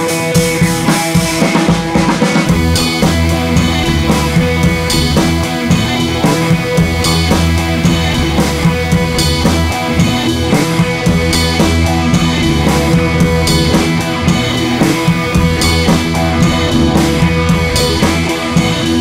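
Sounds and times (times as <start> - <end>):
music with drums and guitar: 0.0 - 19.0.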